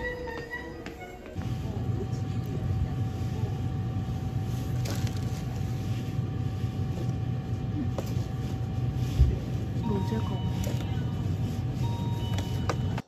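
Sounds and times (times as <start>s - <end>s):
low store ambience hum: 0.0s - 13.0s.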